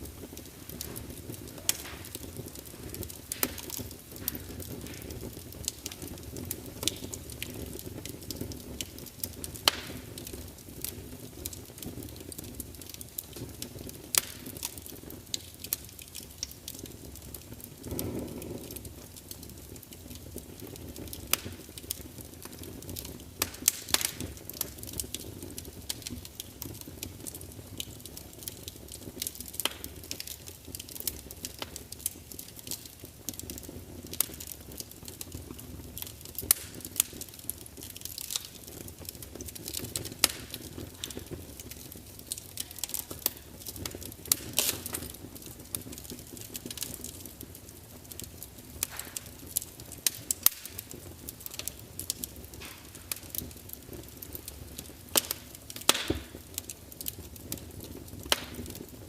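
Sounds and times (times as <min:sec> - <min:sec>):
wood fire burning: 0:00.0 - 0:59.0.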